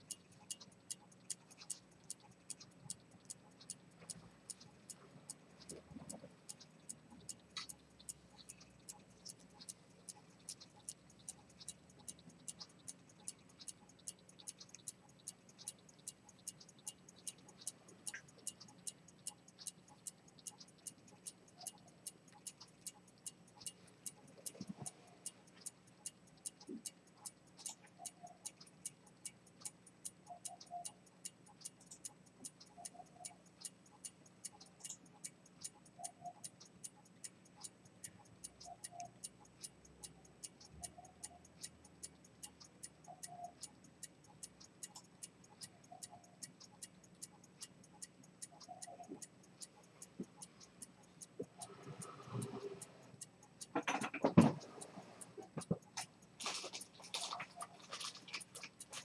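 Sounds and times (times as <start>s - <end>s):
pocket watch ticking: 0.0s - 59.0s.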